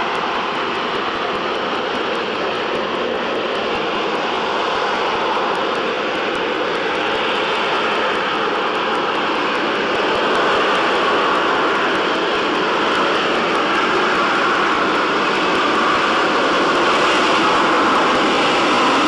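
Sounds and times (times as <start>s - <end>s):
jet engine running: 0.0s - 19.0s.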